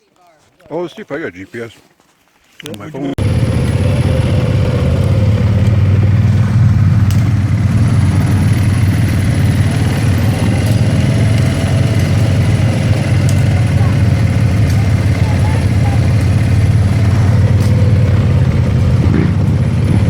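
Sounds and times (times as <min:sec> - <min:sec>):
engine running: 0:03.2 - 0:20.0.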